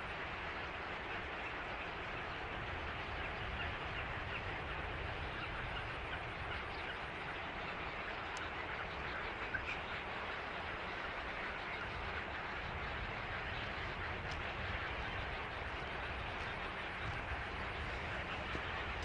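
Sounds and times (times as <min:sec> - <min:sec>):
chorus of birds calling: 0:01.2 - 0:19.0.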